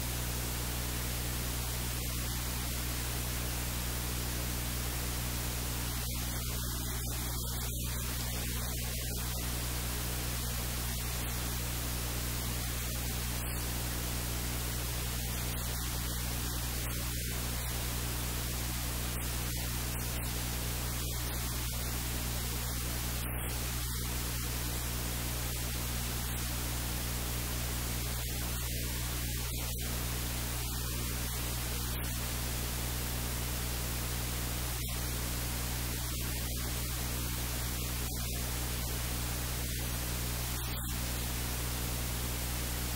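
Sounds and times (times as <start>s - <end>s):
low electrical hum: 0.0s - 42.9s
static hiss: 0.0s - 42.9s.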